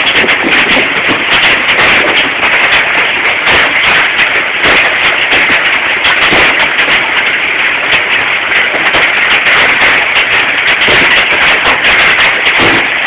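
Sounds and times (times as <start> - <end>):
hailstones clattering: 0.0 - 13.0
hiss of falling ice and rain: 0.0 - 13.0.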